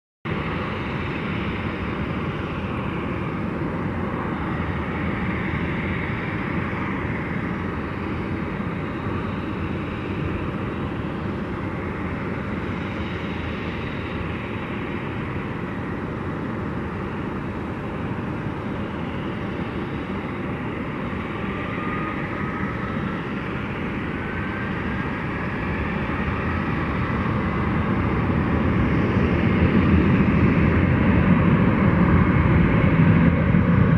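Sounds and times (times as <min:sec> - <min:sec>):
jet engines rushing: 0:00.3 - 0:33.9.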